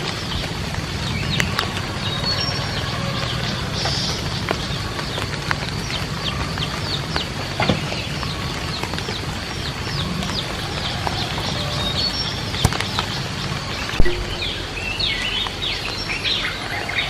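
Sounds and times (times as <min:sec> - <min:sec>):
background hiss: 0:00.0 - 0:17.0
chicks peeping: 0:00.0 - 0:17.0.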